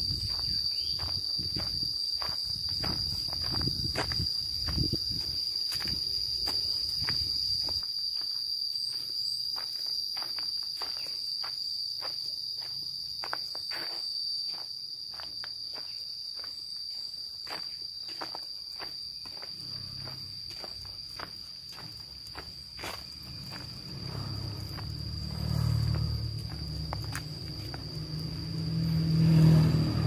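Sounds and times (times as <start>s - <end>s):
footsteps on a path: 0.0s - 29.5s
high-pitched insect drone: 0.0s - 30.0s.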